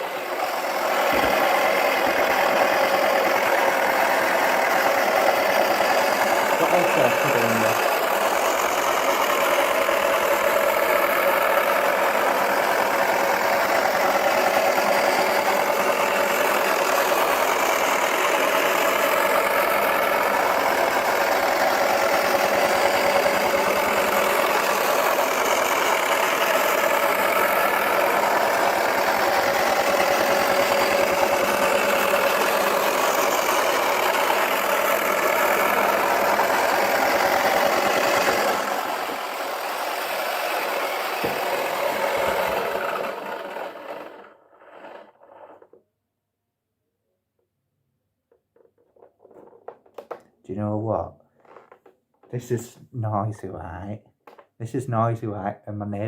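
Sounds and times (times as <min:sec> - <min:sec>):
toy washing machine whirring: 0:00.0 - 0:45.8, 0:48.3 - 0:50.4, 0:51.4 - 0:52.7, 0:54.2 - 0:54.6.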